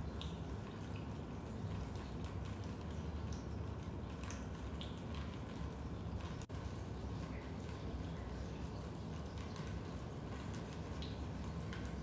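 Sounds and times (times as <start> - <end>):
water dripping: 0.0 - 12.0.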